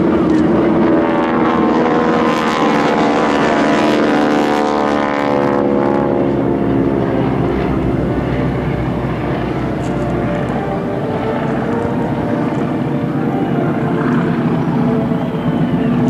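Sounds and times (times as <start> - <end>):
propeller planes droning overhead: 0.0 - 16.0.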